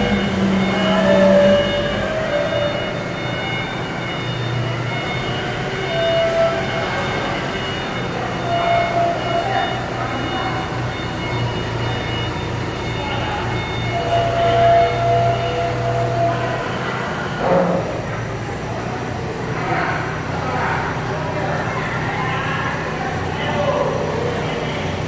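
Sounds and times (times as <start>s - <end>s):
machinery low hum: 0.0s - 25.0s.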